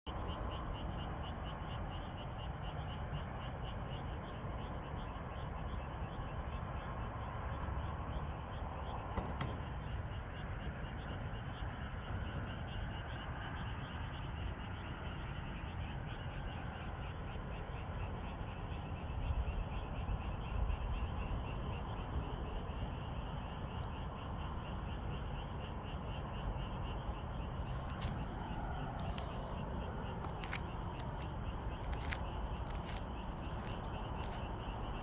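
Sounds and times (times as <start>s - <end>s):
frogs croaking: 0.1s - 9.0s, 10.0s - 35.0s.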